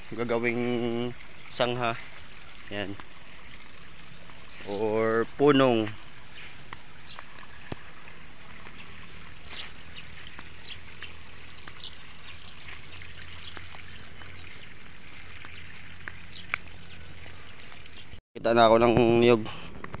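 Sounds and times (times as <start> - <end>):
faint trickling water: 0.0 - 18.2.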